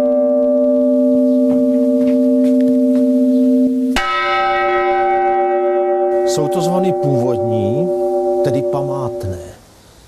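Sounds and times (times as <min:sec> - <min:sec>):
church bell ringing: 0:00.0 - 0:09.6.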